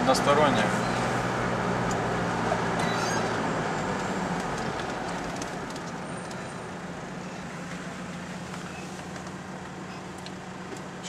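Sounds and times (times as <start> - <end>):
car engine hum: 0.0 - 11.0.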